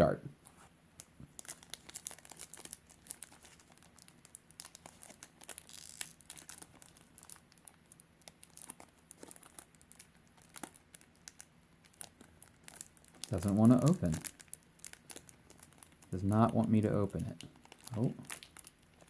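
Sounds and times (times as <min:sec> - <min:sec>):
foil wrapper crinkling: 0:01.0 - 0:19.0.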